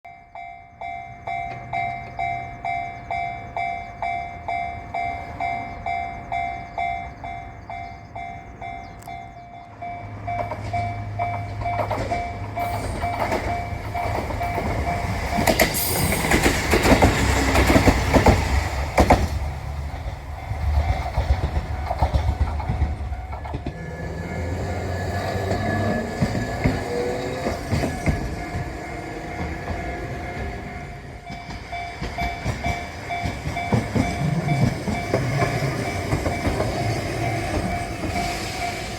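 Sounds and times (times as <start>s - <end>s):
level-crossing warning bell: 0.0s - 18.7s, 19.8s - 38.9s
diesel train engine hum: 0.1s - 38.9s
wheels clattering over rail joints: 0.4s - 38.9s.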